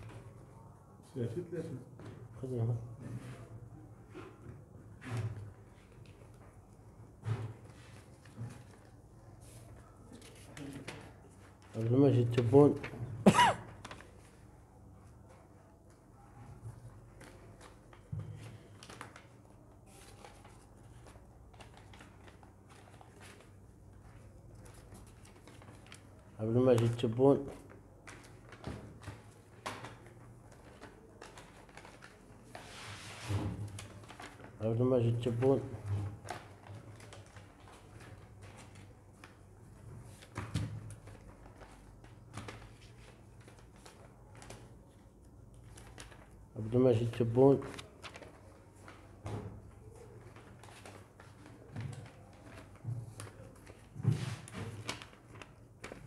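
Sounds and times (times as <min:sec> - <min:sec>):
paper rustling and crackling: 0:05.0 - 0:56.0.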